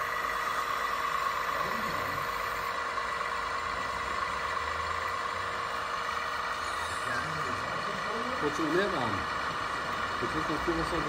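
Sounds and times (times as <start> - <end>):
model truck mechanical whine: 0.0 - 11.0.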